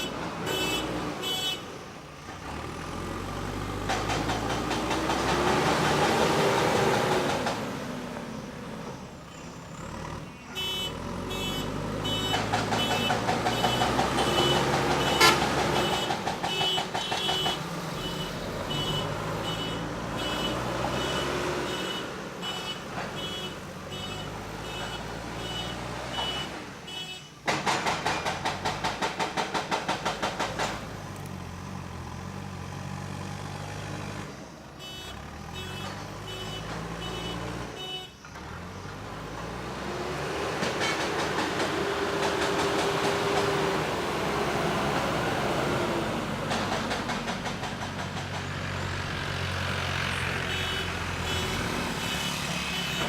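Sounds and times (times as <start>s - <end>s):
diesel engine under load: 0.0s - 53.0s.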